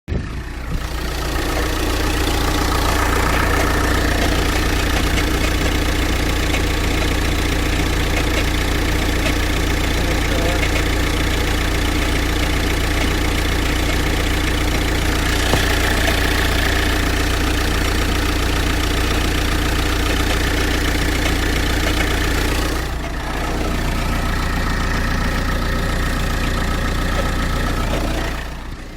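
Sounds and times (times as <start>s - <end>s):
diesel engine idling: 0.1s - 28.9s.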